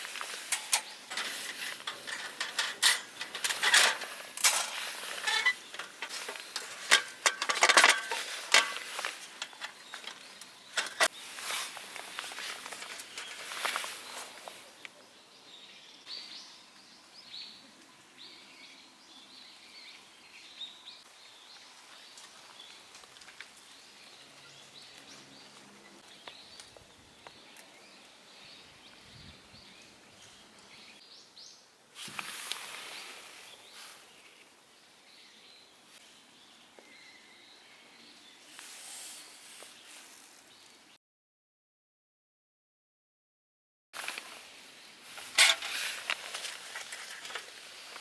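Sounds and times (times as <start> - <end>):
small birds chirping: 0.0 - 31.7, 32.8 - 41.0.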